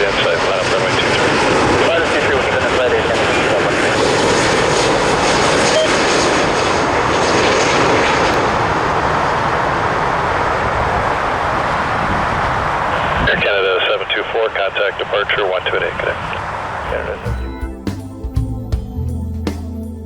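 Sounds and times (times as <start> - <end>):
jet engines roaring: 0.0 - 18.2.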